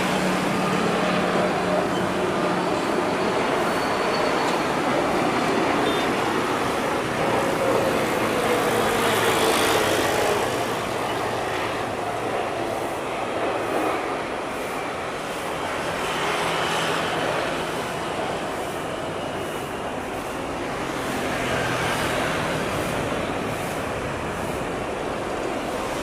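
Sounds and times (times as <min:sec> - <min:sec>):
jet airliner passing with roar: 0:00.0 - 0:26.0.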